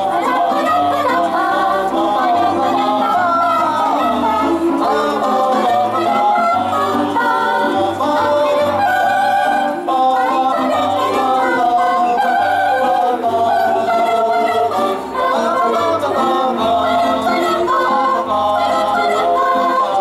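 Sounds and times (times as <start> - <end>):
mixed choir singing in harmony: 0.0 - 20.0.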